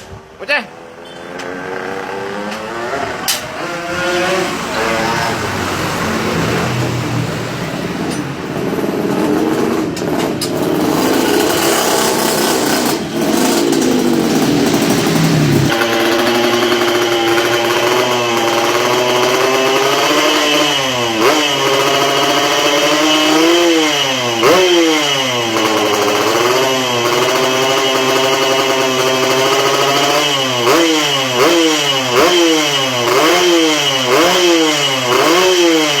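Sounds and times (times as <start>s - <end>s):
two-stroke motorcycle engine revving: 0.5s - 36.0s.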